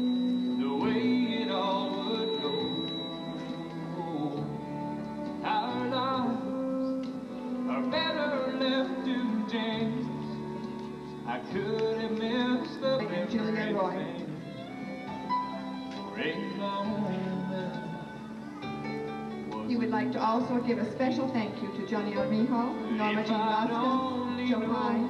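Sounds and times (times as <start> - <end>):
slow music with wavering notes: 0.0 - 25.0.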